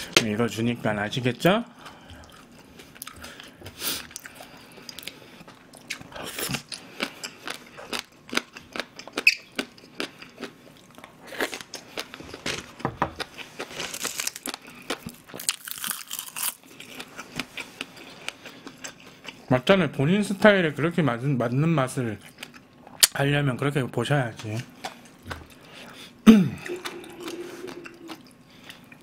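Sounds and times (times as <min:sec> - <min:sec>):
chewing and crunching food: 0:01.2 - 0:19.6, 0:22.0 - 0:23.1, 0:24.4 - 0:29.0.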